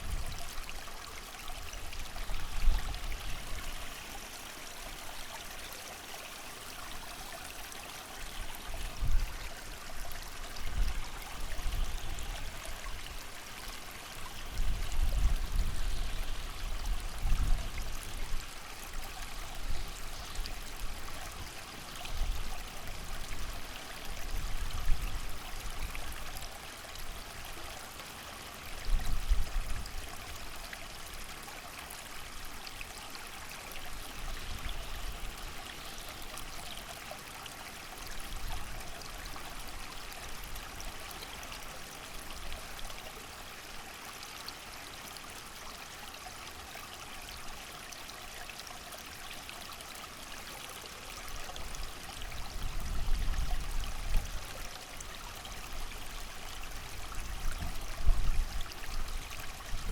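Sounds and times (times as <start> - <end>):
creek running: 0.0 - 59.9.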